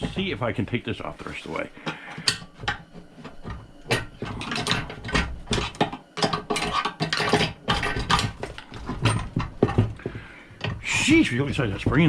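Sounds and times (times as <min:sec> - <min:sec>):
metal clanks and clicks: 0:01.0 - 0:12.0.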